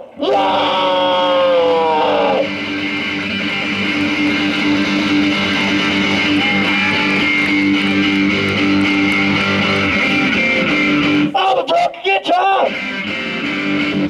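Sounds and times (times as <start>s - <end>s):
rock guitar strumming chords: 0.0s - 14.0s.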